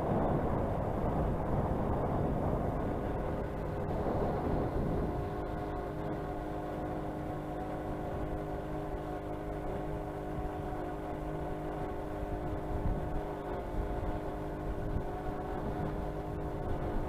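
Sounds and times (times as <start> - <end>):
motor drone with low rumble: 0.0 - 17.0.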